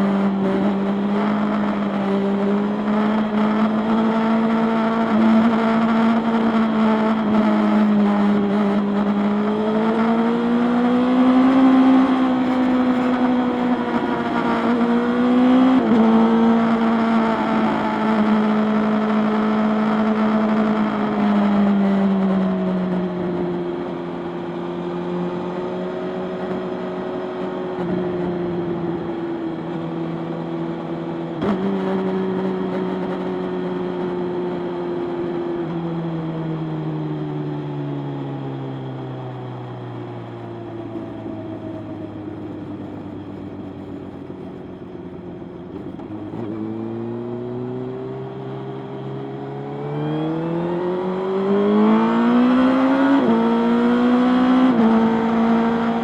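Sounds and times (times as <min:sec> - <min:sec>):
motorcycle engine: 0:00.0 - 0:36.6, 0:38.0 - 0:56.0.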